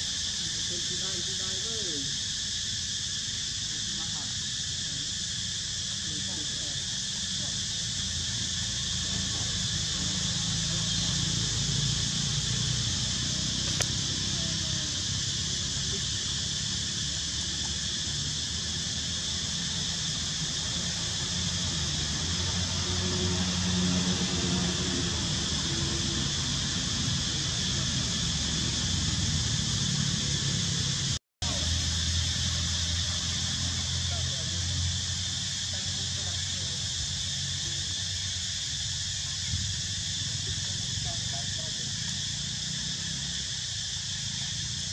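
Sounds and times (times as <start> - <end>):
insect chorus drone: 0.0 - 44.9.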